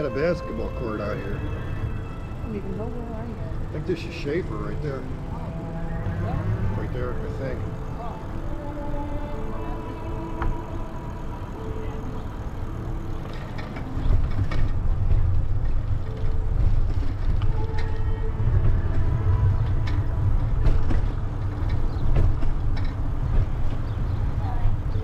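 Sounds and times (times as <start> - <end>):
bicycle road noise: 0.0 - 25.0
wind rumble: 0.0 - 25.0.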